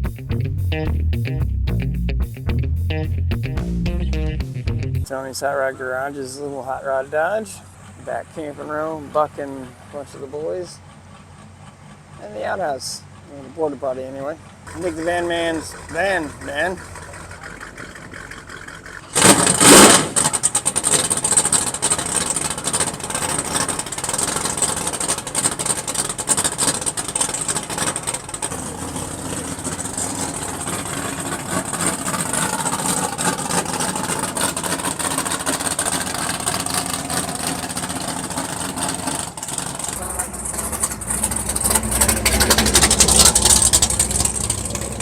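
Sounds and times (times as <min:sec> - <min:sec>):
car engine starting and running: 0:00.0 - 0:45.0.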